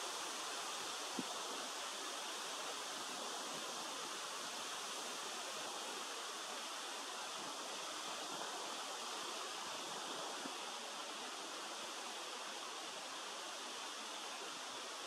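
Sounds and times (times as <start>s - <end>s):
rushing hiss of outdoor ambience: 0.0s - 15.0s.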